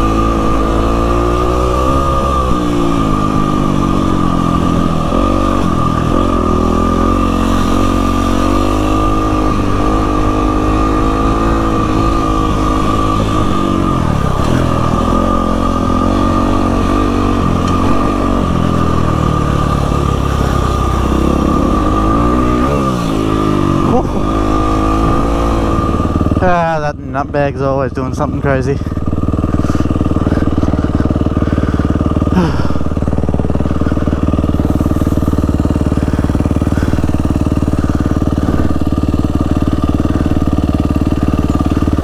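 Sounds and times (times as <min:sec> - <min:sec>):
dirt bike engine: 0:00.0 - 0:42.0
steady high whine: 0:00.0 - 0:42.0.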